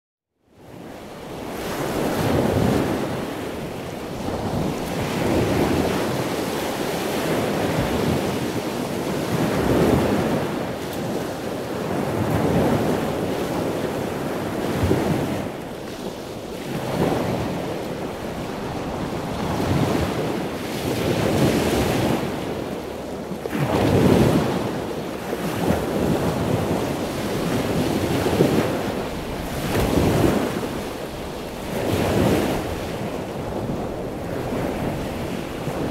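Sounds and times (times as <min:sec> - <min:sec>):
ocean waves rolling in: 0:00.5 - 0:35.9.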